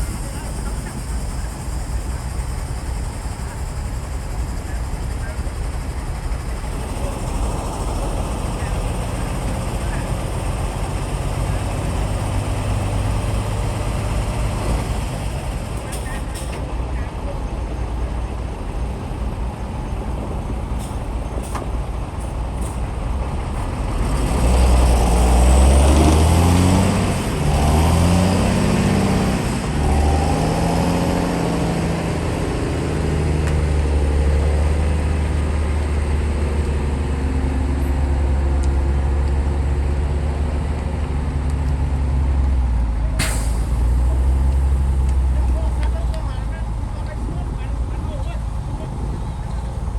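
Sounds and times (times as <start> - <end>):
bulldozer diesel engine revving: 0.0 - 49.9.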